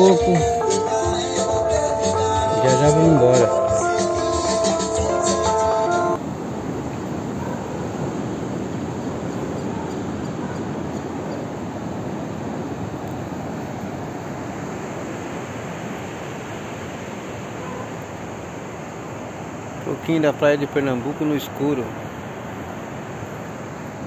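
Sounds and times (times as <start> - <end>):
ocean surf breaking: 4.6 - 24.0.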